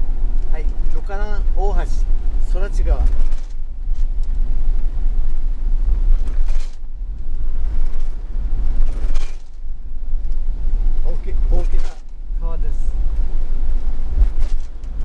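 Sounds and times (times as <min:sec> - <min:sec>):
low rumble of engine and road: 0:00.0 - 0:15.0.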